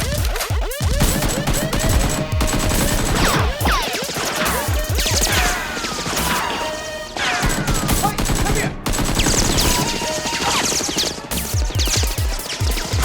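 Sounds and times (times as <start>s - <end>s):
gunfire bursts: 0.0s - 13.0s.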